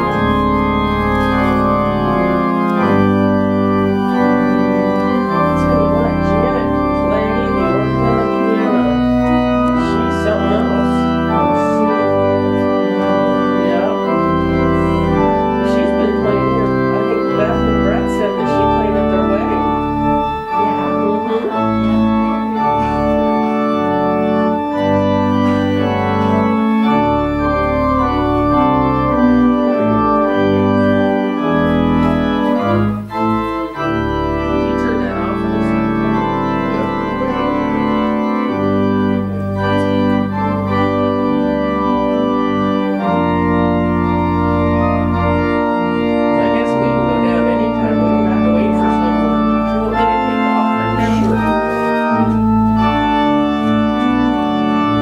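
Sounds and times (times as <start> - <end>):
organ playing sustained chords: 0.0 - 55.0.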